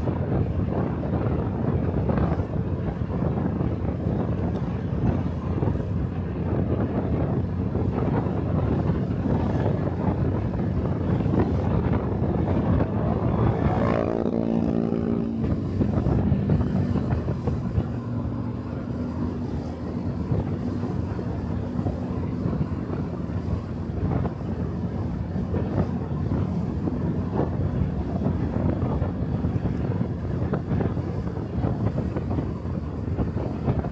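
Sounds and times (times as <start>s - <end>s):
wind buffeting microphone: 0.0s - 33.9s
motorcycle engine running: 0.1s - 33.9s.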